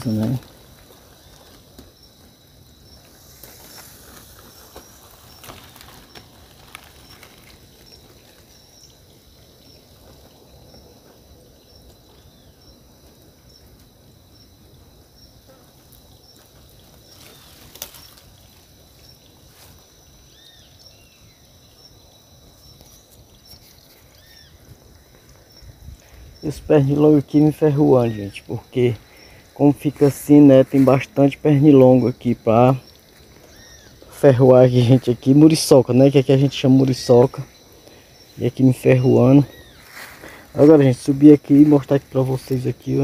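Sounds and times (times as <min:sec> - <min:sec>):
faint hiss: 0:00.0 - 0:43.0
insects droning: 0:00.0 - 0:43.0
soft insect chirp: 0:00.0 - 0:43.0.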